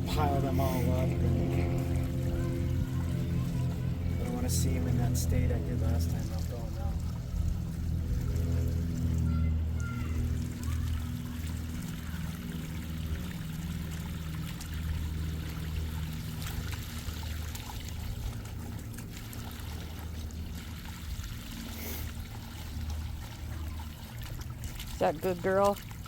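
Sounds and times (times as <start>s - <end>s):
hose water pouring into pool: 0.0s - 26.0s.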